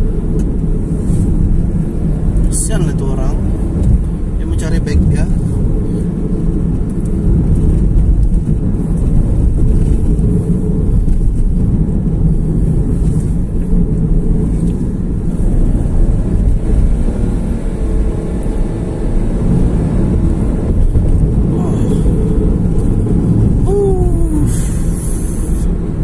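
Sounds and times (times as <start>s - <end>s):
car engine rumble: 0.0s - 26.0s
road noise: 0.0s - 26.0s.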